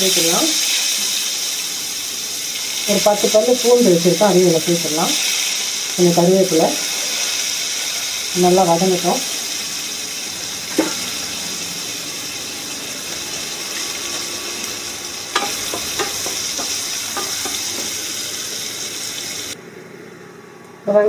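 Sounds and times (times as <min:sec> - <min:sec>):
onions sizzling in hot oil: 0:00.0 - 0:19.6.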